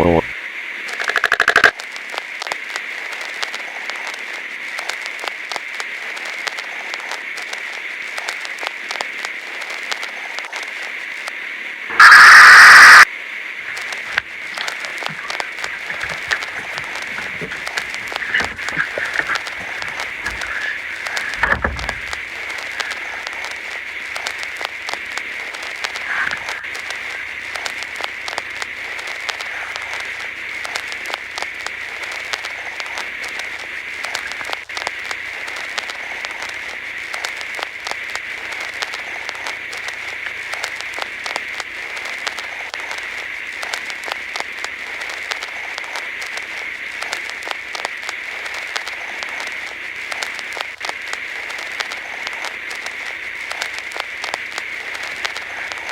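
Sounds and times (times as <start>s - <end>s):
crackling radio static: 0.0s - 55.9s.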